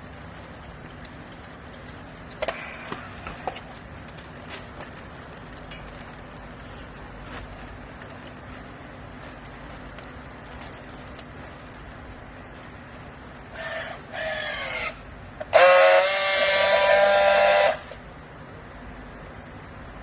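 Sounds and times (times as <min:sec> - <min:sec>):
hydraulic power unit humming: 0:00.0 - 0:20.0.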